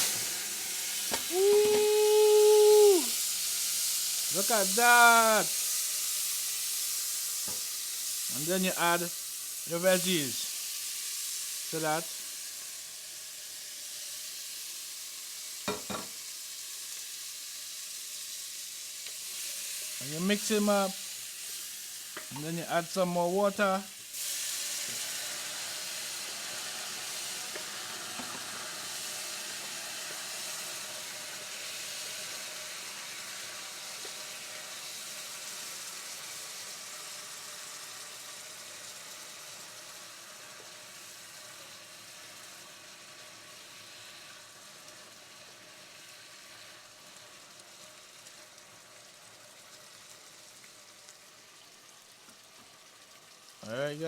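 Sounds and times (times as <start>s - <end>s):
curry sizzling in hot pot: 0.0s - 54.0s.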